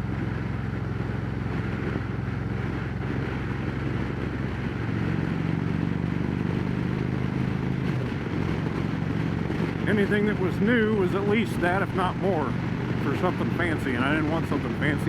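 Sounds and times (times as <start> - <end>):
motorcycle engine cruising: 0.0 - 15.0
wind rushing over microphone: 0.0 - 15.0.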